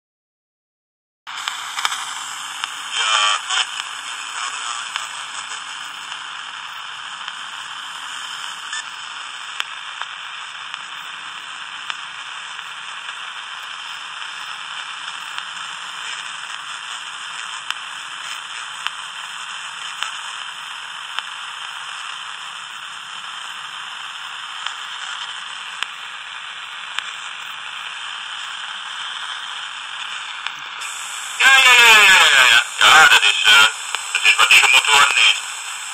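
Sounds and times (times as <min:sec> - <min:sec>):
radio static hissing: 0:01.3 - 0:35.9.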